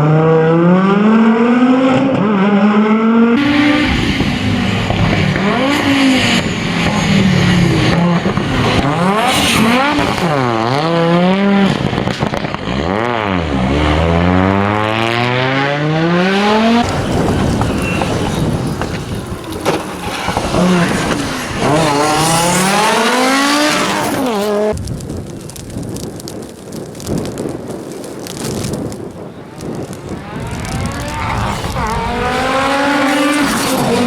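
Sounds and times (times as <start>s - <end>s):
rally car engine revving: 0.0s - 24.8s, 30.0s - 34.0s.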